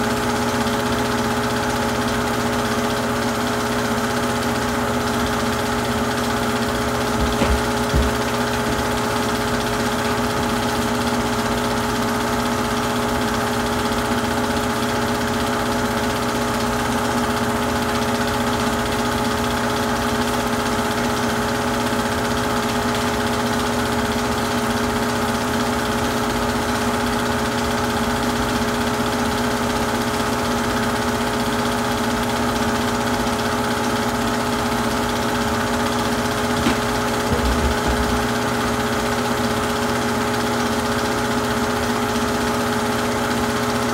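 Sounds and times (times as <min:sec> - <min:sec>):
film projector whir and hum: 0:00.0 - 0:43.9.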